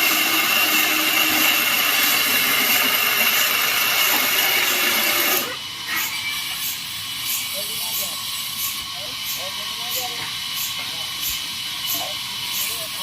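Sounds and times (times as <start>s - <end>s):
power saw cutting wood: 0.0s - 13.0s.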